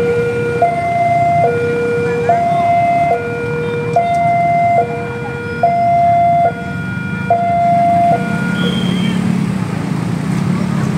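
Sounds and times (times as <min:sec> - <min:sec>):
two-tone siren: 0:00.0 - 0:09.3
low engine rumble: 0:00.0 - 0:10.9.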